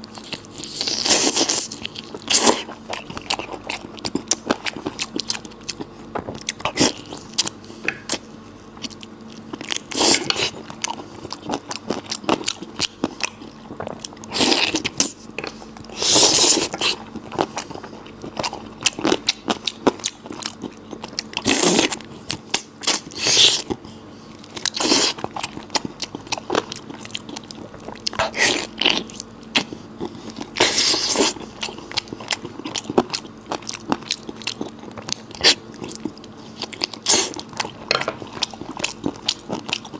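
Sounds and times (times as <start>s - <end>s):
person biting and chewing: 0.0s - 39.9s.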